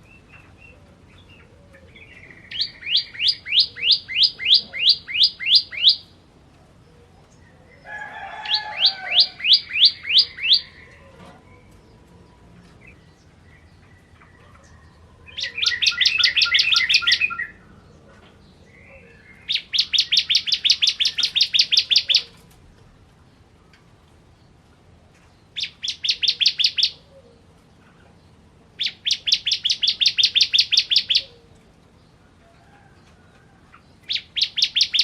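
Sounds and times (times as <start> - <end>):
bird singing trills: 0.0 - 6.2, 7.2 - 22.5, 25.4 - 27.2, 27.8 - 31.4, 33.7 - 35.0.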